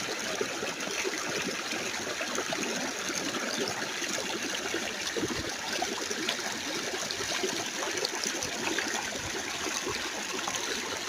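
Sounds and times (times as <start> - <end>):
stream babbling: 0.0 - 11.0.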